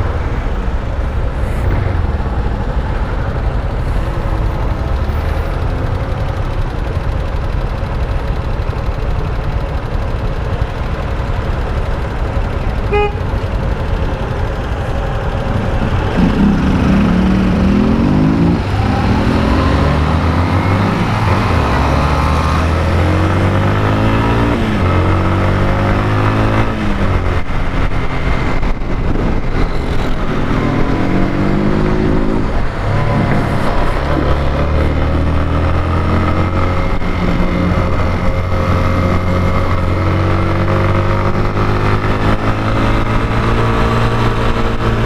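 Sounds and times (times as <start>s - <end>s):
motorcycle engine accelerating: 0.1s - 45.0s.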